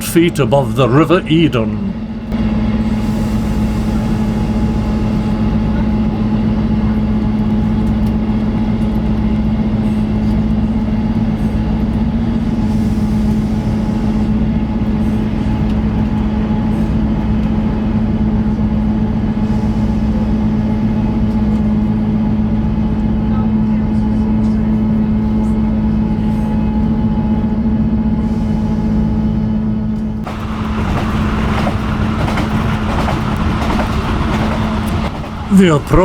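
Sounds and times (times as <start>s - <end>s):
train engine drone: 0.0s - 36.0s
wheels rumbling on track: 0.0s - 36.0s.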